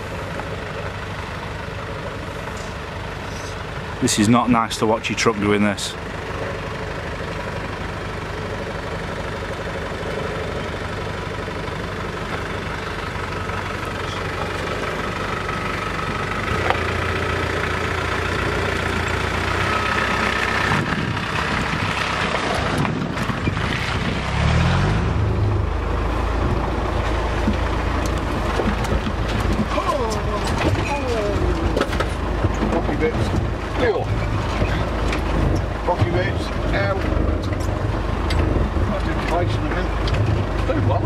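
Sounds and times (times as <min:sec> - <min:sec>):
car engine running at low revs: 0:00.0 - 0:41.0.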